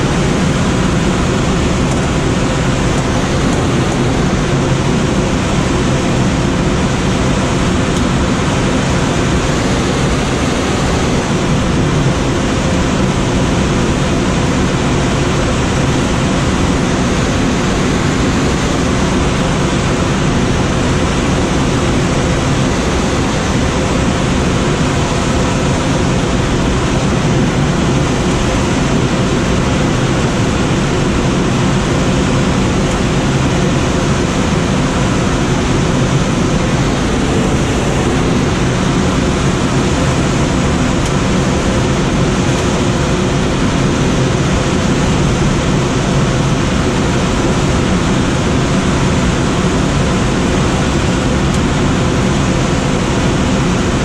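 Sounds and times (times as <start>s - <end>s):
rushing airflow in glider cockpit: 0.0s - 54.0s.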